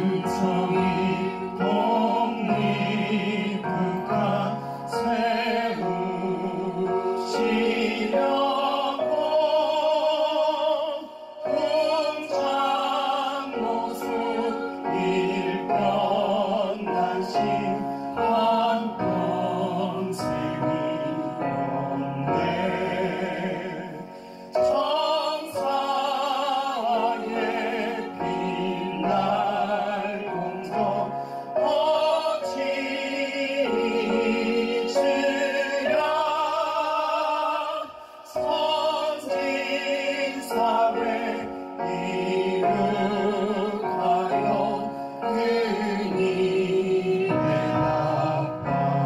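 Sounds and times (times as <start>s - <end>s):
operatic singing voice: 0.0s - 49.0s.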